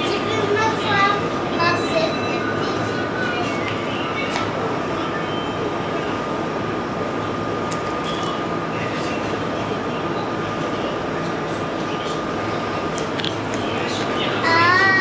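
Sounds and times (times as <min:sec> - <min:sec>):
ferry engine low hum: 0:00.0 - 0:15.0
thin steady whine: 0:00.0 - 0:15.0.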